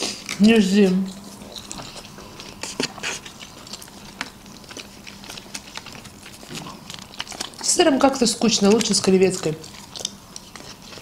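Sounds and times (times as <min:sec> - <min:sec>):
wet mouth chewing clicks: 0:01.0 - 0:11.0.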